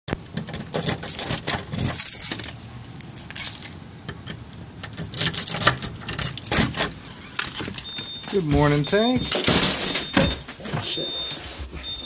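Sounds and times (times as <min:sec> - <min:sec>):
keys jangling at a door lock: 0:00.4 - 0:12.0.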